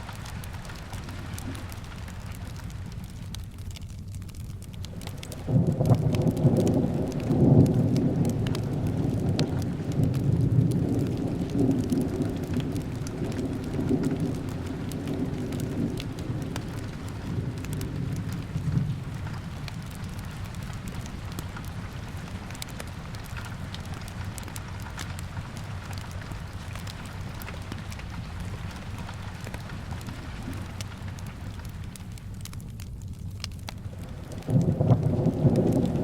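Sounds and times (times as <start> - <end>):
steady rain: 0.0 - 36.0
wood fire crackling: 0.0 - 36.0
thunder rumbling: 4.6 - 32.6, 33.8 - 36.0.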